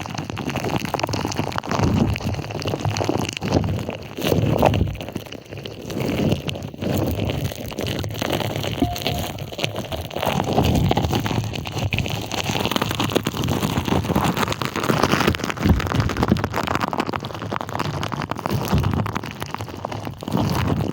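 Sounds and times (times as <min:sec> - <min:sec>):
slime squishing on microphone: 0:00.0 - 0:20.9.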